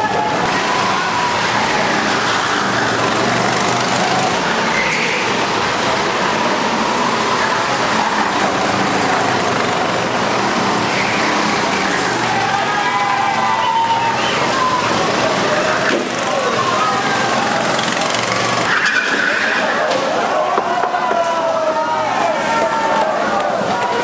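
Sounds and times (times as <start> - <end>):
go-kart engines whining: 0.0 - 24.0.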